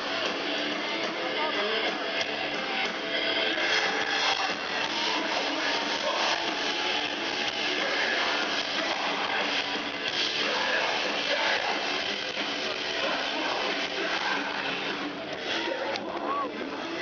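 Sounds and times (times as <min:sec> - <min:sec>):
live metalcore band playing: 0:00.0 - 0:17.0.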